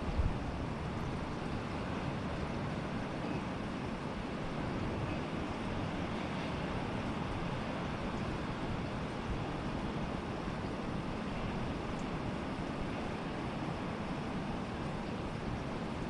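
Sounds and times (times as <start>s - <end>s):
stormy wind and rain: 0.0s - 16.0s.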